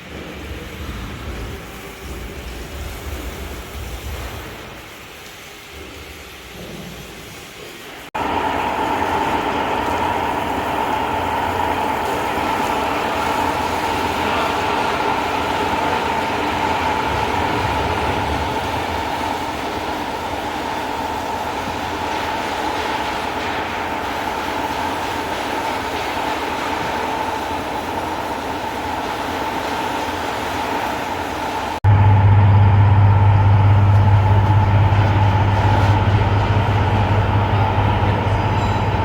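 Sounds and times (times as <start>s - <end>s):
machine whine and rumble: 0.0s - 5.0s, 8.2s - 39.0s.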